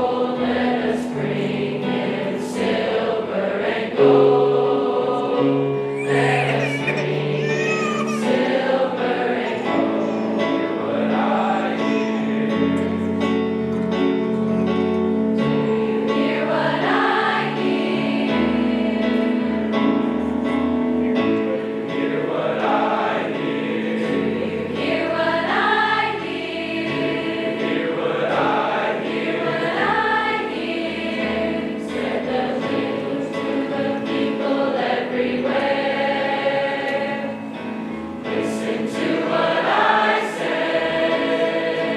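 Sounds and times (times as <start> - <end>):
choir singing: 0.0 - 14.2, 14.8 - 20.4, 21.1 - 41.9.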